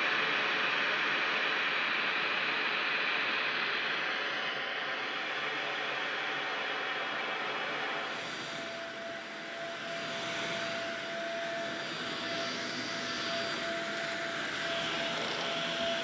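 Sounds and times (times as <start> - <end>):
vacuum cleaner running over carpet: 0.1 - 16.0.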